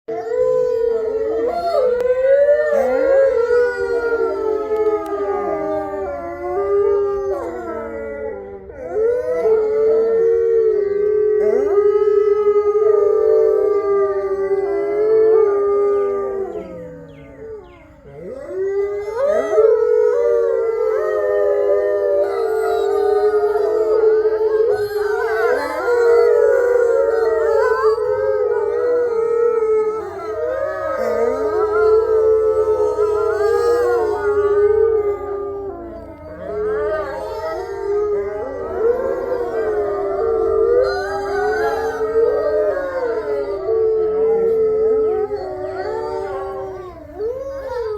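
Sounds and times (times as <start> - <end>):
wolves howling in chorus: 0.1 - 47.9.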